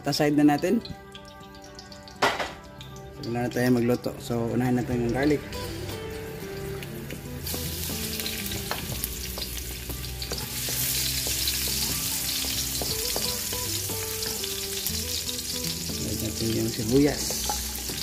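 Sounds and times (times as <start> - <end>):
garlic sizzling in hot oil: 0.0 - 18.0.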